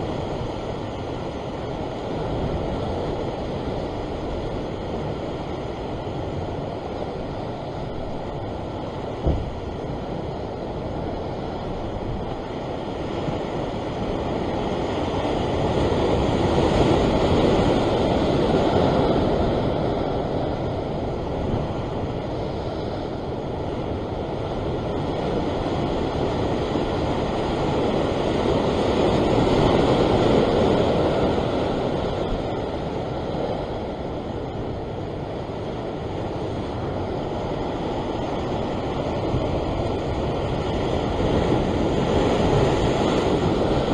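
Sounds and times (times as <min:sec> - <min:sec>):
ocean swell washing against rocks: 0:00.0 - 0:43.9
wind on microphone: 0:00.0 - 0:43.9.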